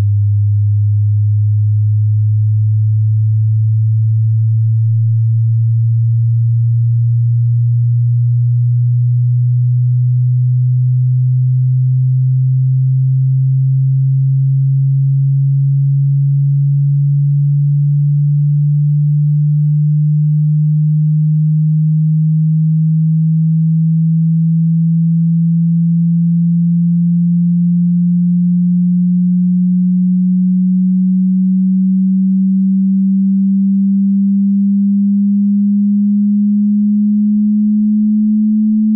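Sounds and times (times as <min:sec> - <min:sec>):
sine tone sweeping upward: 0:00.0 - 0:38.9.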